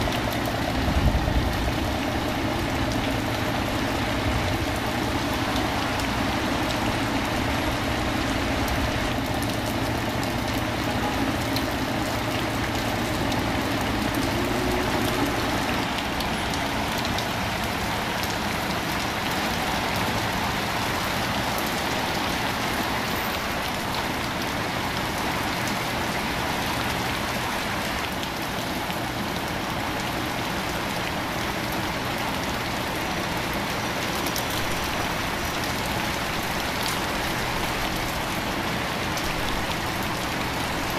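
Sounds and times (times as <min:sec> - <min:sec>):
rain falling on street: 0:00.0 - 0:40.9
traffic engines humming: 0:00.0 - 0:40.9.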